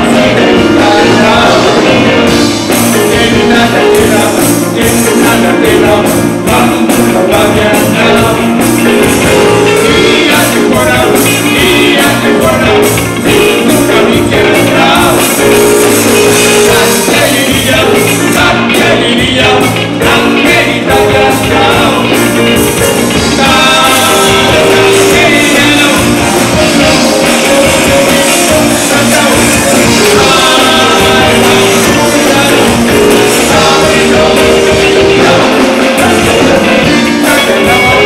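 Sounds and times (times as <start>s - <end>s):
bass guitar: 0.0s - 38.0s
drum kit: 0.0s - 38.0s
electric guitar: 0.0s - 38.0s
men singing: 0.0s - 38.0s.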